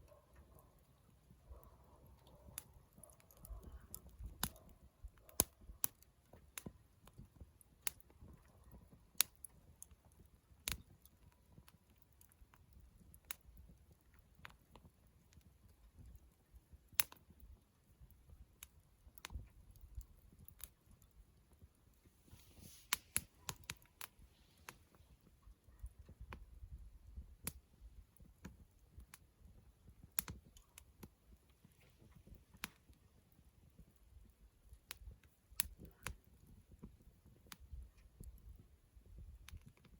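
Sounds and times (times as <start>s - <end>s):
campfire crackling and popping: 0.3s - 39.9s.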